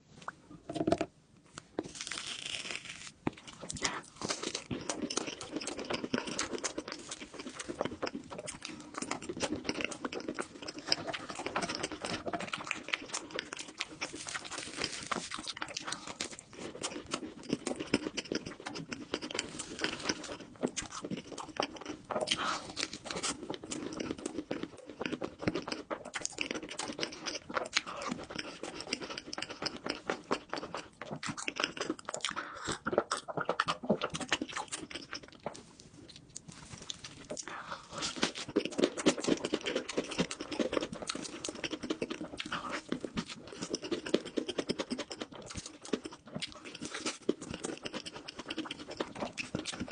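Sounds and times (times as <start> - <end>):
biting crunching and chewing: 1.8 - 49.9.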